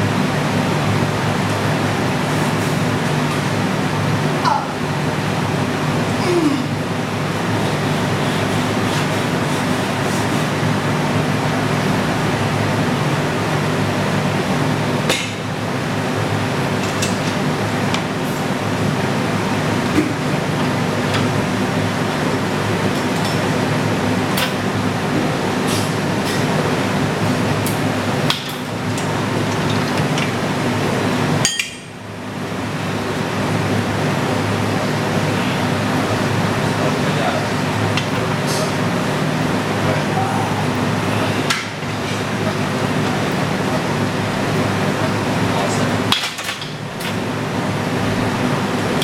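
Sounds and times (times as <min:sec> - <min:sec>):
floor fan humming: 0:00.0 - 0:49.0.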